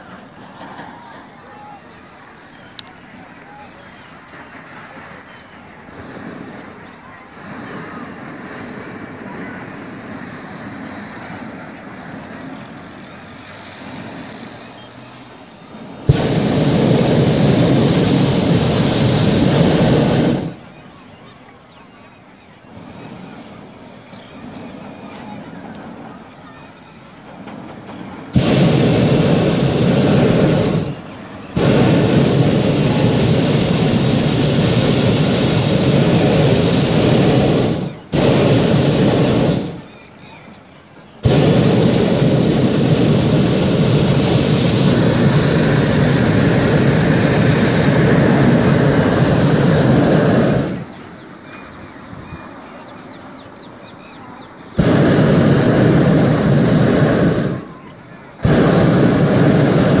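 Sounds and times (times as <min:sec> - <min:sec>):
propane burner roaring: 0:04.0 - 0:21.1, 0:27.2 - 0:40.4, 0:41.0 - 0:53.1, 0:53.9 - 1:00.0.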